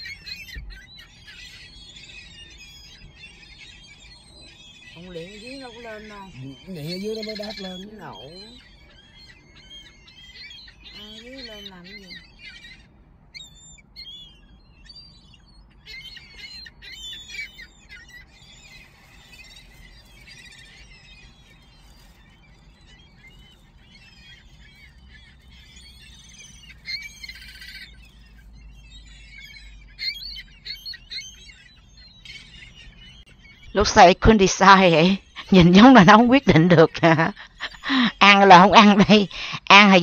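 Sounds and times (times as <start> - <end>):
seagulls calling: 0.0 - 40.0.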